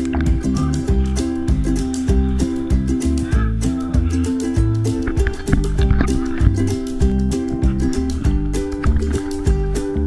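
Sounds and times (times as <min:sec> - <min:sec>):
plucked guitar strumming: 0:00.0 - 0:10.0
steady beat: 0:00.0 - 0:10.0.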